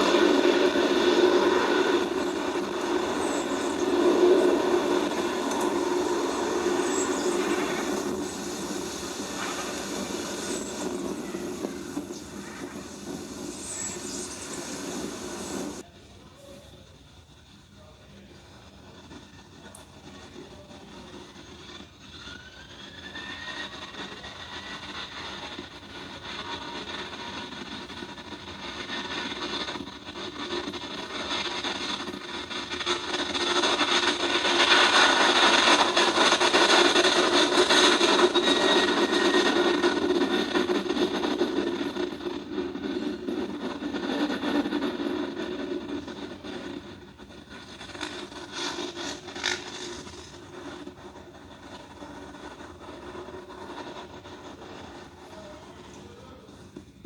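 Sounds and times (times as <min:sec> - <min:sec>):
rising engine whine: 0:00.0 - 0:15.8, 0:18.6 - 0:57.0
jet airliner passing: 0:00.0 - 0:57.0.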